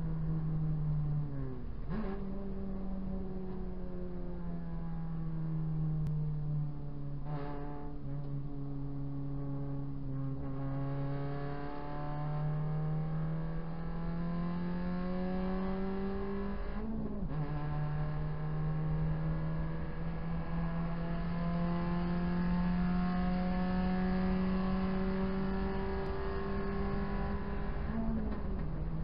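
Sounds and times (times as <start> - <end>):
car engine under full throttle: 0.0 - 29.0
road and tyre noise: 0.0 - 29.0.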